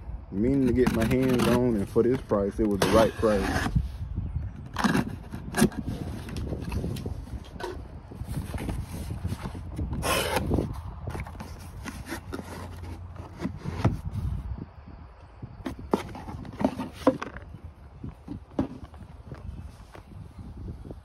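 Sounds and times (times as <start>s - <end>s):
knocks and scrapes: 0.4s - 14.5s, 15.6s - 20.1s
cardboard flaps scraping and rustling: 0.6s - 3.9s, 4.6s - 14.5s, 15.6s - 20.2s.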